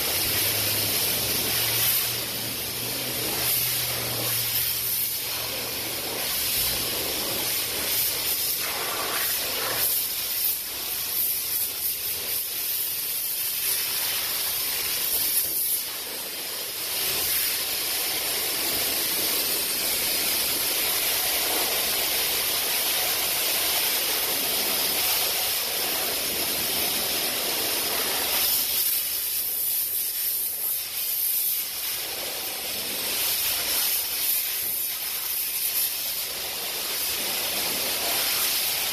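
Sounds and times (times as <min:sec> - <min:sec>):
water spray hissing on car: 0:00.0 - 0:38.9.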